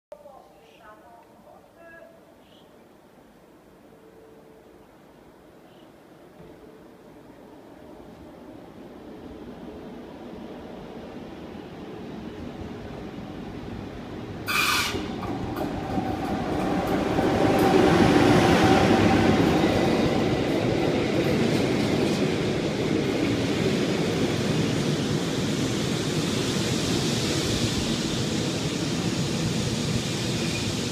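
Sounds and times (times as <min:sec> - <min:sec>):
train rumbling past: 0:03.1 - 0:30.9.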